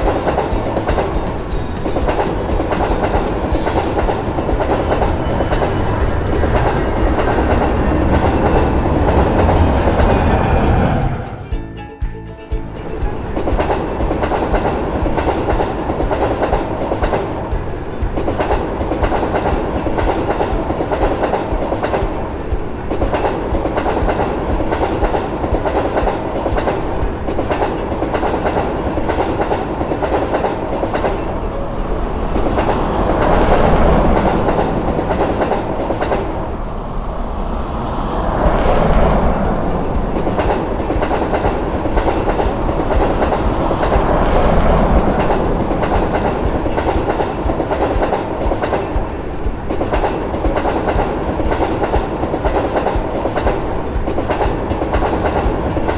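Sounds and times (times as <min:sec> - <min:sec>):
train wheels clacking over rail joints: 0:00.0 - 0:55.9.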